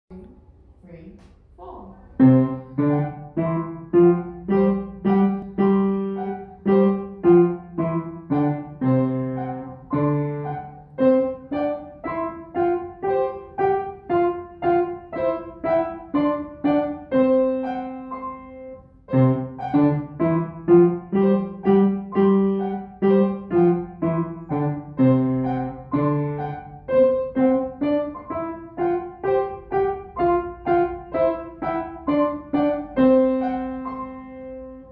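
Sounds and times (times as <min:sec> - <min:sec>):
upright piano tune: 0:02.2 - 0:34.9.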